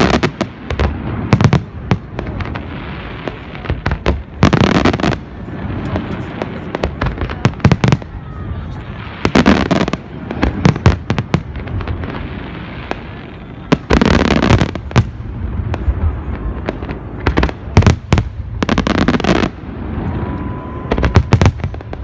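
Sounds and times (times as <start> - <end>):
fireworks bangs: 0.0 - 22.0
fireworks crackling: 0.0 - 22.0
low rumble of fireworks: 0.0 - 22.0.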